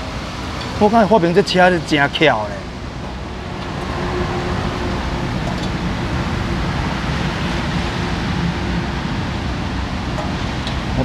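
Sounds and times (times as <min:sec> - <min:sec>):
low hum: 0:00.0 - 0:11.0
steady rushing noise: 0:00.0 - 0:11.0.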